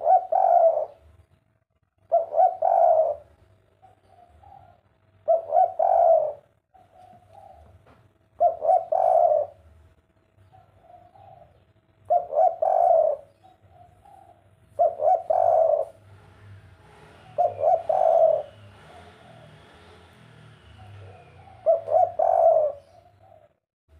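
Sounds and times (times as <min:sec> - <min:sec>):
dove cooing: 0:00.0 - 0:01.2, 0:02.0 - 0:09.7, 0:10.4 - 0:16.0, 0:17.2 - 0:20.0, 0:20.8 - 0:23.6.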